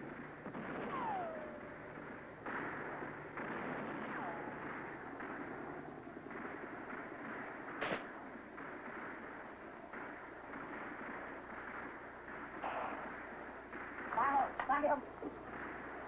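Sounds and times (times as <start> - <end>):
explosions: 0.0 - 16.0
gunfire: 0.0 - 16.0
sharp crack: 0.0 - 16.0.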